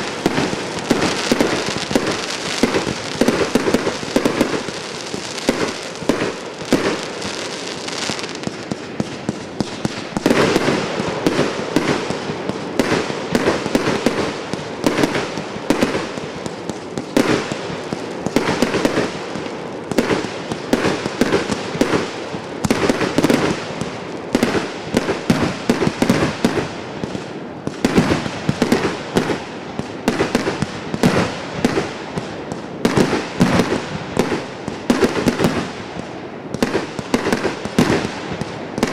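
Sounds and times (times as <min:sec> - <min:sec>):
fireworks barrage with crackling: 0:00.0 - 0:38.9.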